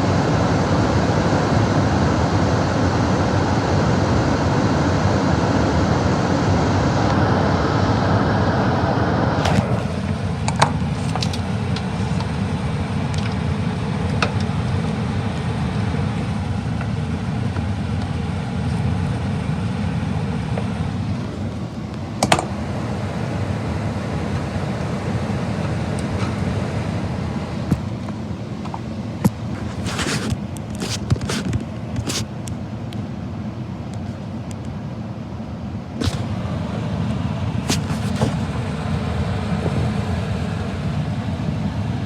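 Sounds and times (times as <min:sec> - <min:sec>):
furnace blower rushing air: 0:00.0 - 0:42.0.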